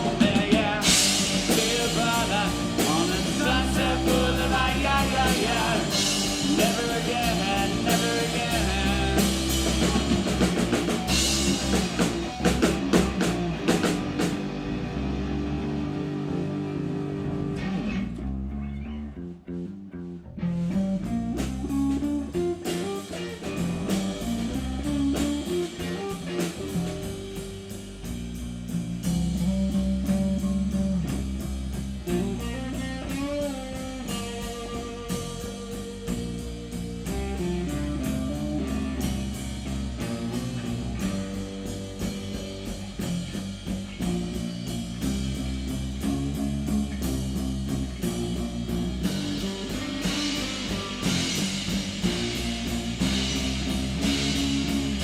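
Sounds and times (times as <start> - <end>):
drum kit: 0.0 - 18.5, 19.4 - 55.0
bass guitar: 0.0 - 55.0
guitar melody: 0.0 - 55.0.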